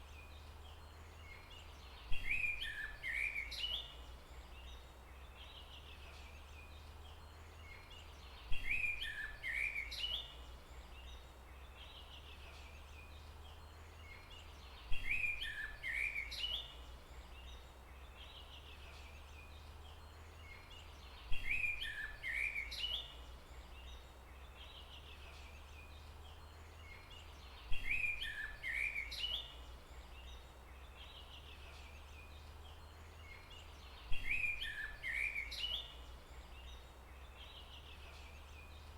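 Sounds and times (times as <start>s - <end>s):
faint chirps from other birds: 0.0s - 38.9s
songbird chirping phrase: 0.0s - 38.9s.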